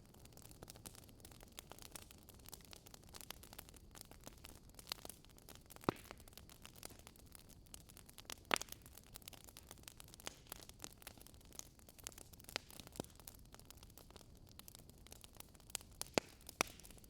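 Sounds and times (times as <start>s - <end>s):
campfire wood crackling: 0.0s - 17.0s
loud fire pops: 0.3s - 17.0s.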